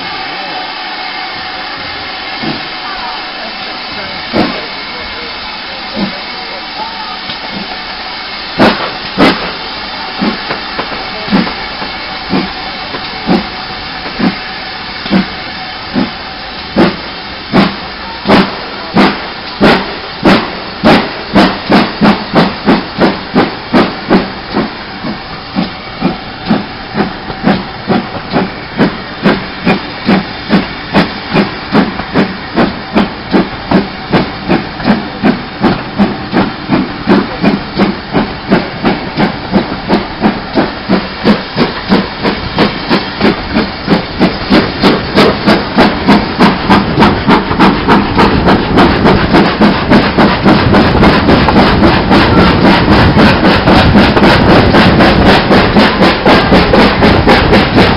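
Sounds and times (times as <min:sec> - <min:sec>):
steam hissing: 0:00.0 - 0:57.9
steam locomotive exhaust chuffs: 0:00.0 - 0:57.9.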